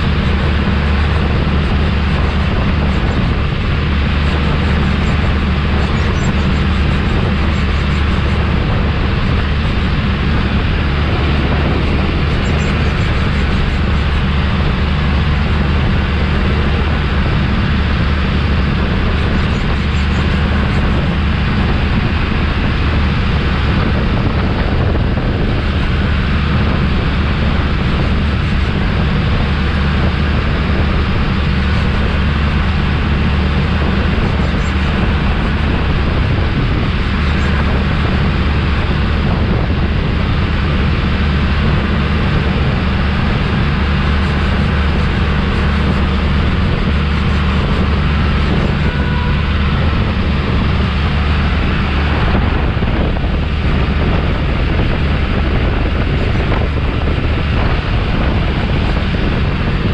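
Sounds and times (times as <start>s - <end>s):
tractor diesel engine running: 0.0s - 59.9s
wind on microphone: 0.0s - 59.9s.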